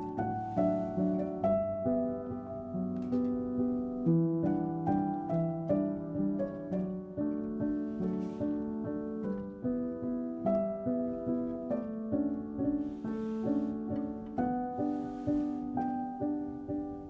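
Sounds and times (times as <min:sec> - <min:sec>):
plucked string and piano melody: 0:00.0 - 0:17.0.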